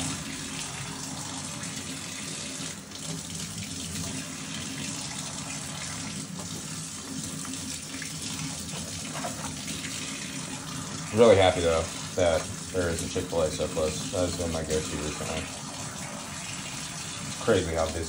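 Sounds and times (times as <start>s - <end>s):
faucet running into plastic sink: 0.0s - 18.0s.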